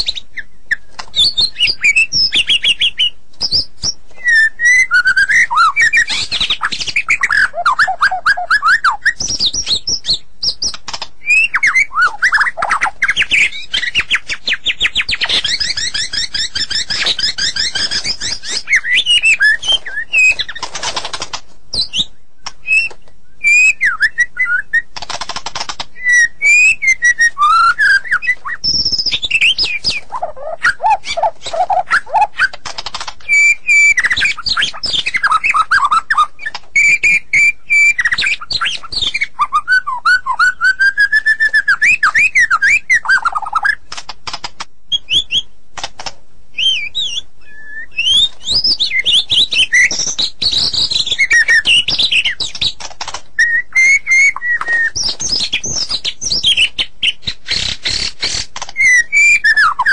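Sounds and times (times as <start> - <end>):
bird whistling song: 0.0 - 20.8, 21.7 - 25.0, 25.9 - 43.8, 44.9 - 45.6, 46.5 - 52.8, 53.4 - 59.9.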